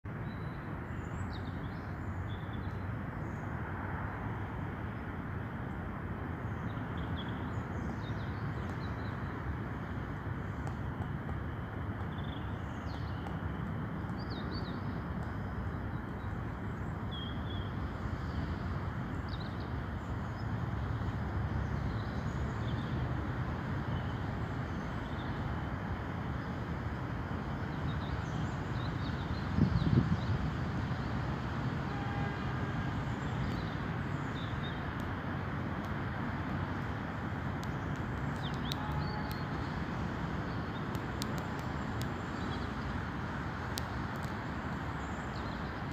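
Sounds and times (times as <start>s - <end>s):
low rumbling outdoor noise: 0.0s - 45.9s.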